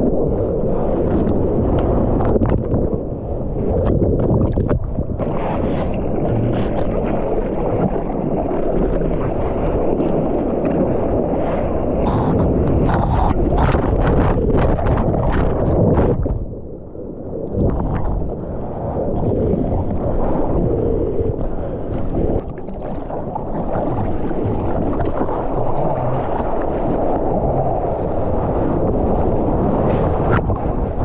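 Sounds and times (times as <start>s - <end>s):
water lapping: 0.0s - 16.6s, 17.4s - 31.0s
sea water splashing: 0.0s - 31.0s
wind on microphone: 0.0s - 31.0s.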